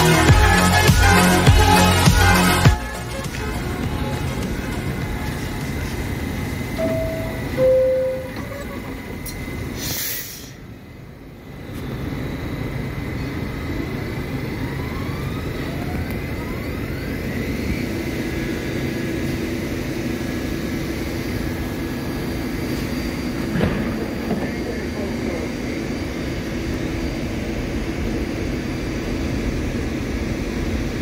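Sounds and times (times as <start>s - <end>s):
subway car mechanical hum: 0.0s - 31.0s
faint rising whines: 3.3s - 9.8s, 10.5s - 31.0s.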